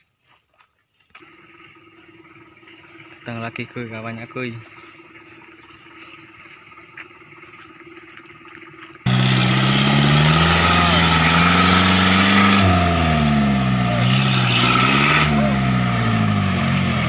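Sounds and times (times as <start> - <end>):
vehicle engine running: 1.2 - 17.0.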